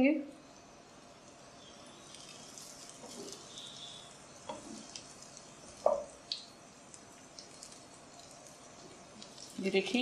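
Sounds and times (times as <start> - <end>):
bread frying in oil: 0.5 - 10.0.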